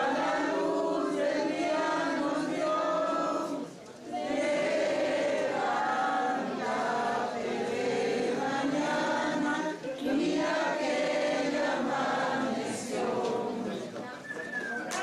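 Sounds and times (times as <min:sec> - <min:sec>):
group of people singing: 0:00.0 - 0:14.3.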